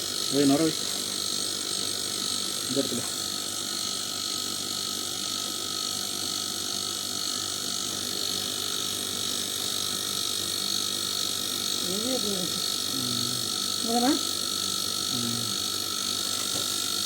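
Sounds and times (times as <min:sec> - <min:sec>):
machine hiss with whining tones: 0:00.0 - 0:17.0.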